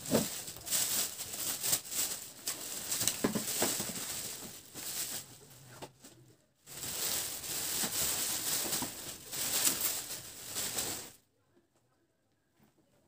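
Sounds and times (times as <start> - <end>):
plastic wrapping rustling: 0.0 - 11.2.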